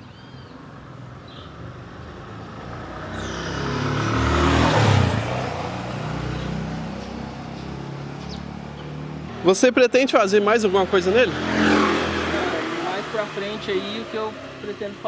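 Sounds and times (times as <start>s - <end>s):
motor vehicle passing by: 0.4s - 15.0s.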